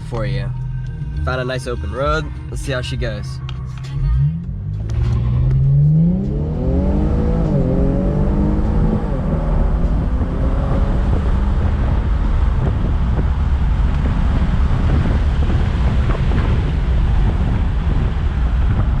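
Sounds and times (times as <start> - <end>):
car engine accelerating hard: 0.0 - 19.0
road and wind noise: 0.0 - 19.0.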